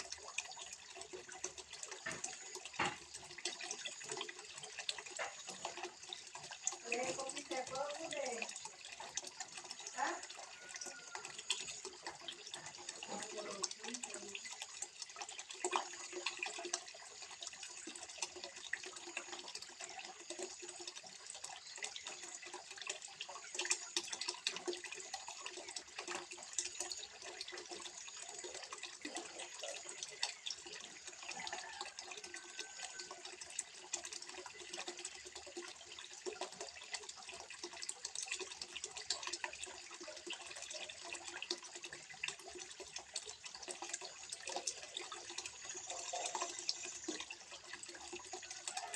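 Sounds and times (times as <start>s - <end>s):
small water splashes and drips: 0.0s - 48.9s
water trickling into pond: 0.0s - 48.9s.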